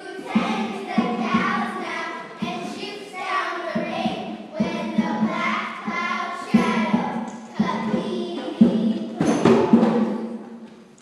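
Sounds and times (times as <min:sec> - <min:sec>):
children singing together: 0:00.0 - 0:10.6.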